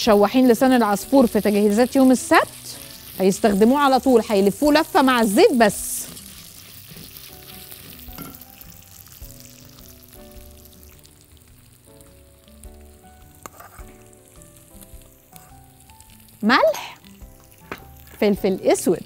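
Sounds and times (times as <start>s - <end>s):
pasta sizzling in oil: 0.0s - 19.0s
soft background music: 0.0s - 19.0s.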